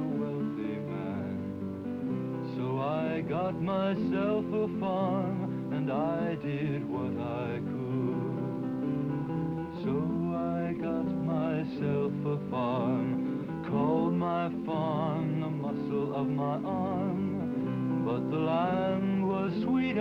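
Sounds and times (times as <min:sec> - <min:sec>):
acoustic guitar: 0:00.0 - 0:20.0
country film score music: 0:00.0 - 0:20.0.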